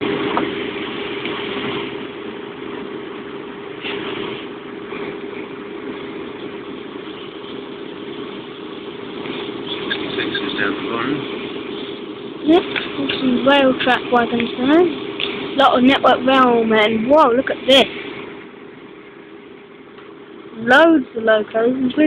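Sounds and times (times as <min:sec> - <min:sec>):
constant hum: 0:00.0 - 0:22.0
train running noise: 0:00.0 - 0:22.0.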